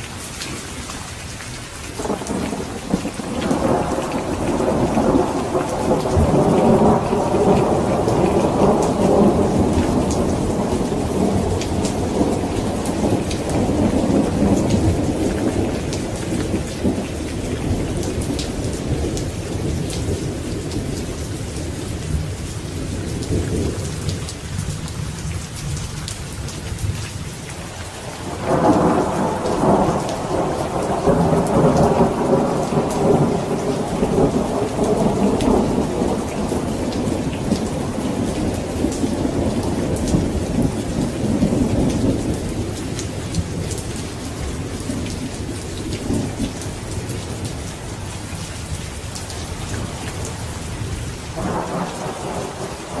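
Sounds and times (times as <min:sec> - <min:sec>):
steady rain: 0:00.0 - 0:53.0
thunder rumbling: 0:02.0 - 0:25.1, 0:27.9 - 0:47.6, 0:49.3 - 0:53.0.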